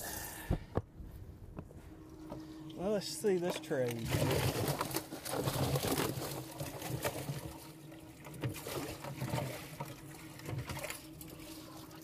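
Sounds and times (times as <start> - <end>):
steady low hum: 0.0 - 12.0
water splashing and sloshing: 2.2 - 12.0.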